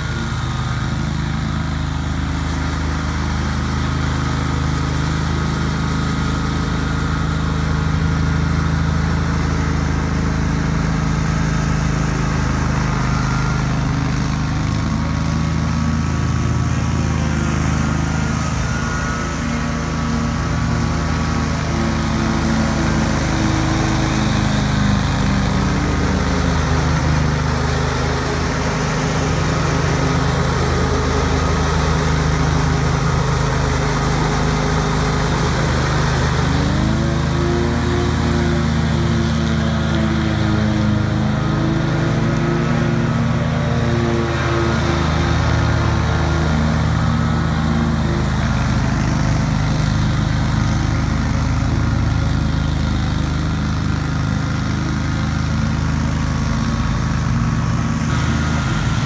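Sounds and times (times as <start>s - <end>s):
blades cutting tall grass: 0.0s - 59.0s
mower engine running: 0.0s - 59.0s.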